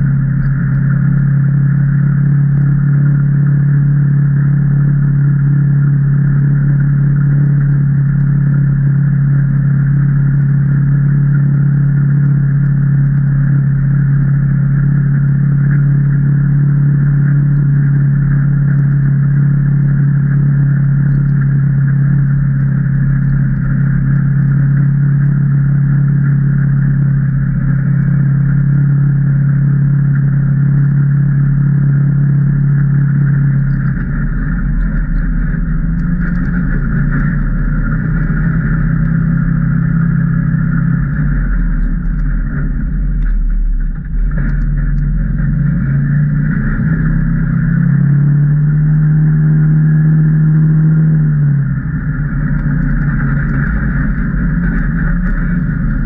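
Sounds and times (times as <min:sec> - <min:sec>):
engine droning steadily: 0:00.0 - 0:56.0.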